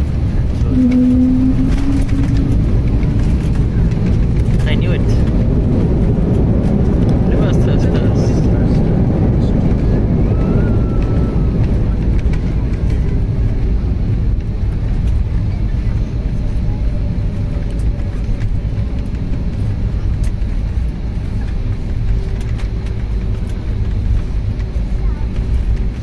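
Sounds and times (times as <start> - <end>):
aircraft engines: 0.0 - 26.0
low rumble of wheels on runway: 0.0 - 26.0.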